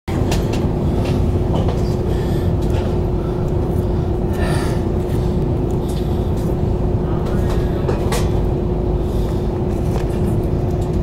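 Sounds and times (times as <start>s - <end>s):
train low hum: 0.1s - 11.0s.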